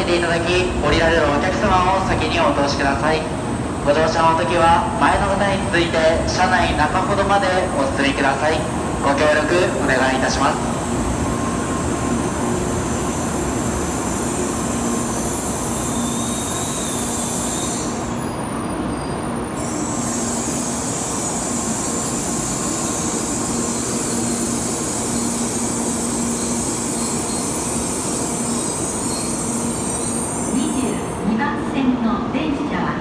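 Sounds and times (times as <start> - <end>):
train pulling into platform: 0.0 - 33.0.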